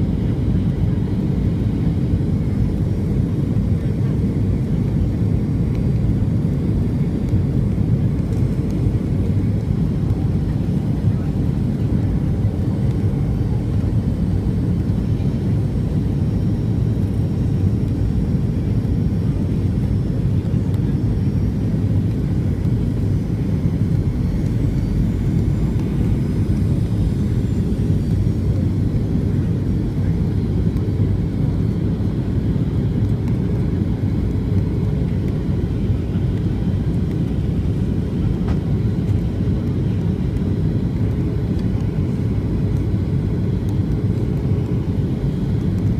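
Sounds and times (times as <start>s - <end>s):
jet engine cabin noise: 0.0s - 45.9s.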